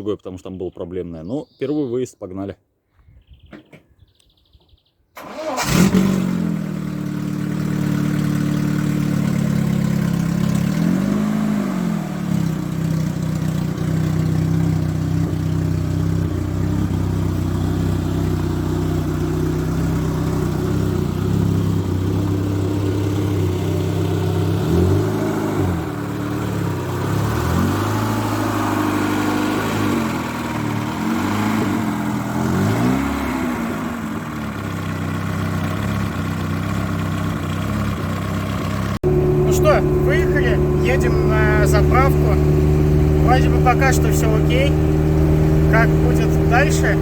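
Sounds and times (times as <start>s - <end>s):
car engine starting and idling: 5.2s - 47.0s
engine revving: 5.2s - 47.0s.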